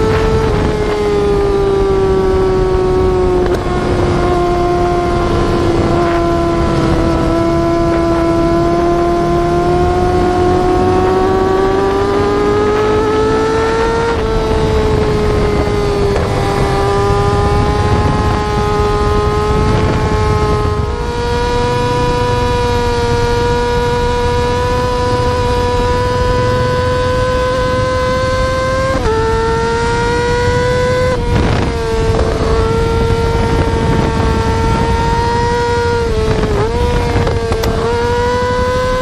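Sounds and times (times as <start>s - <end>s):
motorcycle engine howling at high revs: 0.0s - 39.0s.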